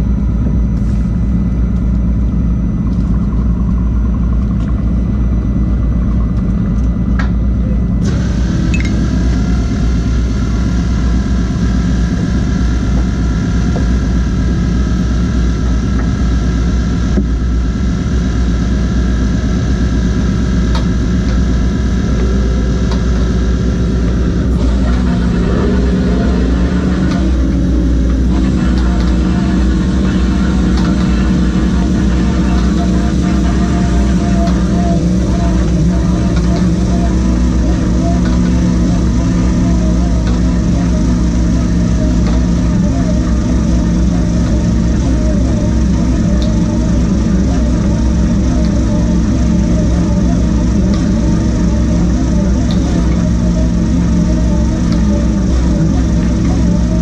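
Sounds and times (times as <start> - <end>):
boat engine rumbling: 0.0 - 57.0
machinery whine: 0.0 - 57.0.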